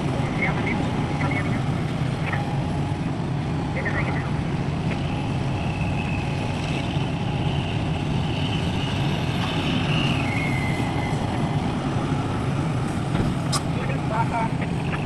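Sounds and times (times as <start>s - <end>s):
heavy diesel engines rumbling: 0.0s - 15.0s.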